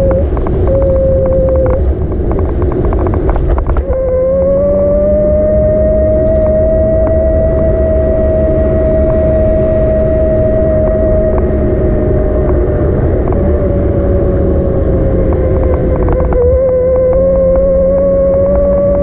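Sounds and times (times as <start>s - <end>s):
electric motor whining: 0.0s - 1.9s, 3.0s - 19.0s
wind and road noise rumble: 0.0s - 19.0s.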